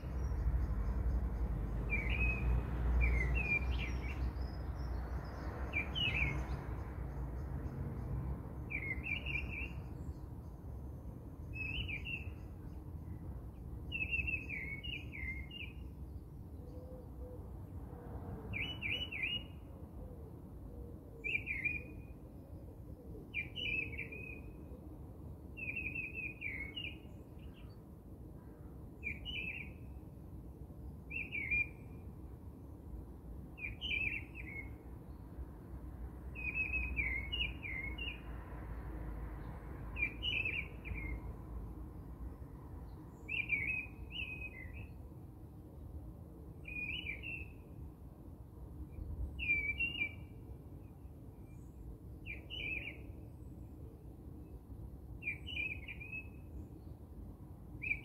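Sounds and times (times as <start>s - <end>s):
songbird chirping: 0.0s - 17.8s, 18.5s - 19.7s, 21.2s - 30.1s, 31.0s - 32.7s, 33.5s - 35.4s, 36.2s - 45.4s, 46.6s - 47.9s, 48.8s - 58.0s.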